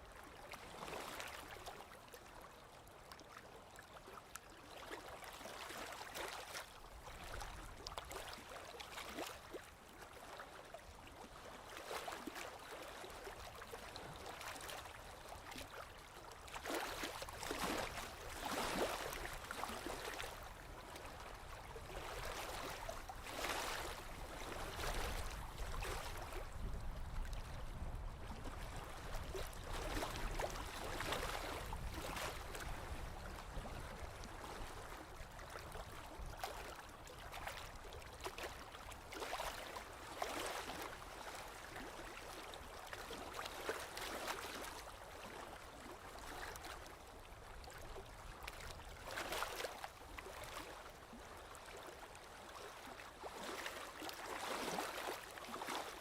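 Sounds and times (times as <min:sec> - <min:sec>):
small waves lapping: 0:00.0 - 0:56.0.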